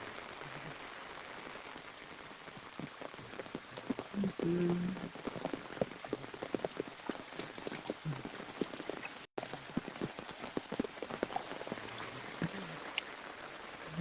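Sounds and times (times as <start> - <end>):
rain falling: 0.0 - 14.0
raindrops striking close by: 0.0 - 14.0.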